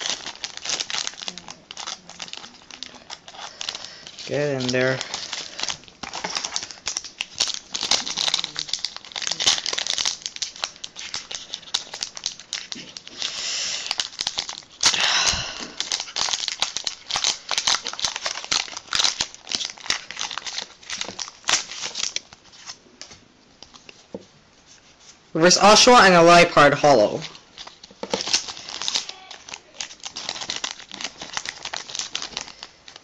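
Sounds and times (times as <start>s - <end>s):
foil wrapper ripping: 0.0s - 22.8s, 26.8s - 33.0s
foil wrapper crinkling: 0.0s - 24.1s, 26.6s - 33.0s.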